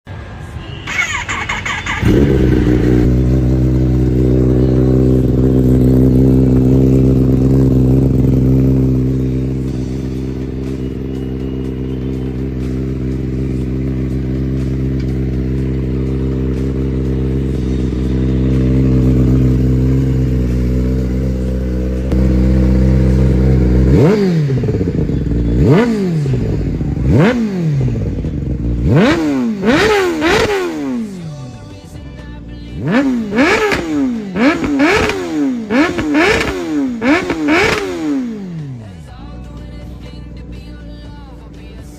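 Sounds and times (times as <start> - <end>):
motorcycle engine idling and revving: 0.9 - 41.9.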